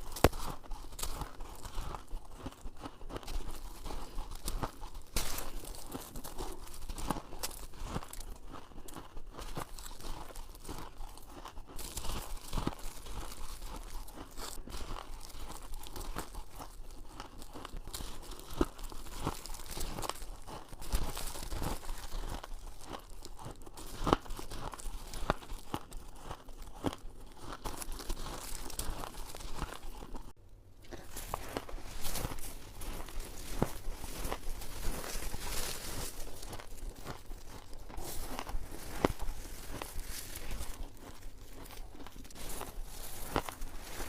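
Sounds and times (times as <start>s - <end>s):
shaved ice crunching: 0.0s - 44.0s.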